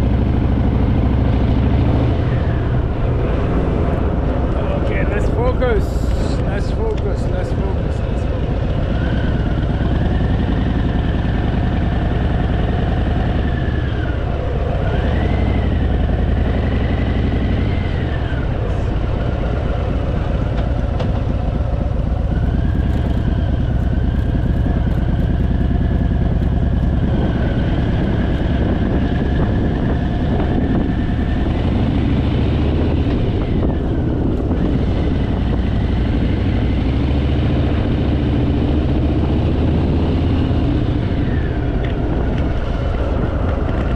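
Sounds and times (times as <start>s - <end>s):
motorcycle engine running: 0.0s - 43.9s
road noise: 0.0s - 43.9s
wind noise: 0.0s - 43.9s.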